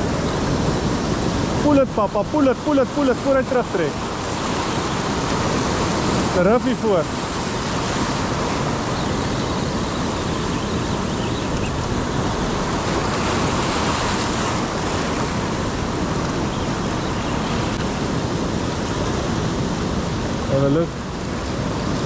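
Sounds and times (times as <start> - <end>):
surf washing over rocks: 0.0 - 22.0
wind buffeting microphone: 0.0 - 22.0.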